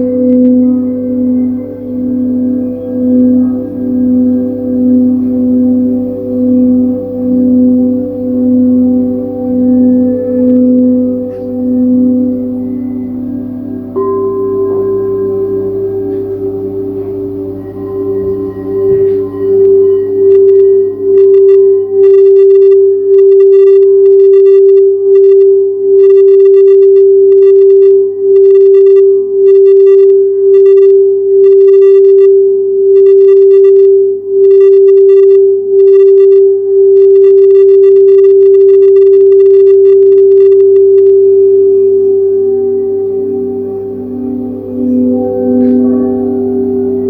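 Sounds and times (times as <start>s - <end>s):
singing bowl long steady note: 0.0s - 47.0s.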